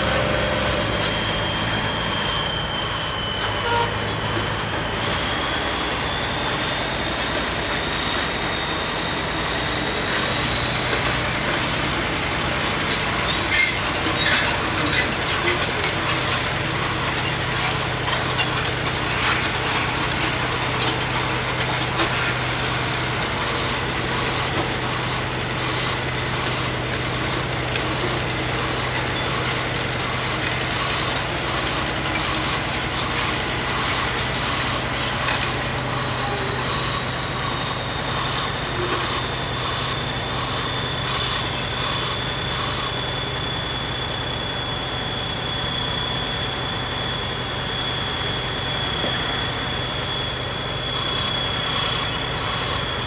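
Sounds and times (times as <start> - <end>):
vibratory hammer hum and whine: 0.0 - 53.0.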